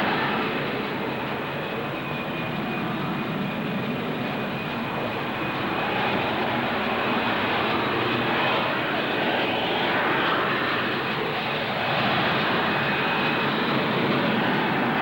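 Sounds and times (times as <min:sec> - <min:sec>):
jet engine rushing with whine: 0:00.0 - 0:15.0.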